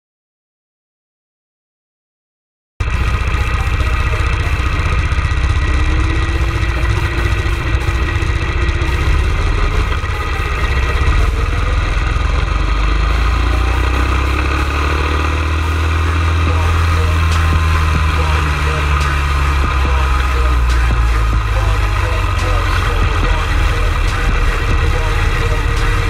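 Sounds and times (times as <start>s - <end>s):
go-kart engine running: 2.8s - 26.0s.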